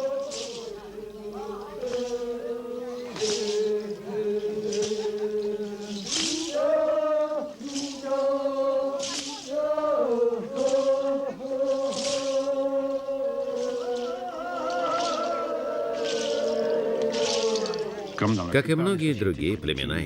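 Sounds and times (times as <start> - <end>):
men chanting: 0.0 - 20.0.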